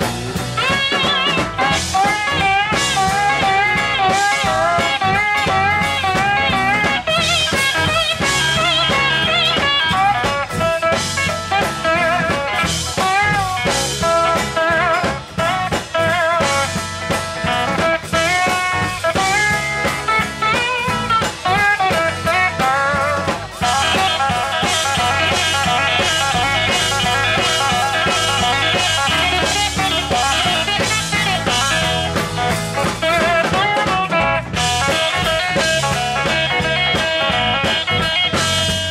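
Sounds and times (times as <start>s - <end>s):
bass guitar: 0.0s - 38.9s
drums: 0.0s - 38.9s
electric lead guitar: 0.0s - 38.9s
steel guitar gliding notes: 0.0s - 38.9s.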